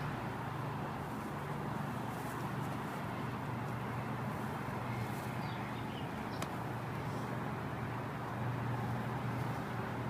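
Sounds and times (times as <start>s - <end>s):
distant highway traffic hum: 0.0s - 10.0s.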